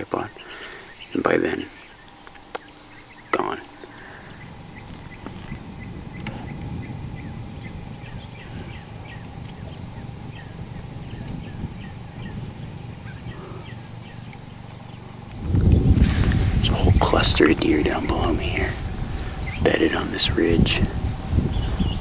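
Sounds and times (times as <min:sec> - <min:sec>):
small birds chirping: 0:00.0 - 0:22.0
wind noise on microphone: 0:03.4 - 0:22.0.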